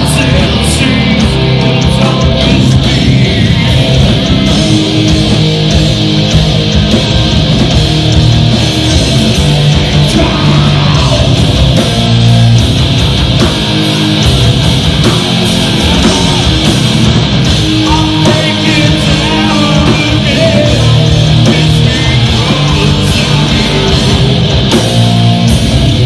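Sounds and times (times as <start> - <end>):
bass guitar: 0.0 - 26.0
distorted electric guitars: 0.0 - 26.0
drums: 0.0 - 26.0.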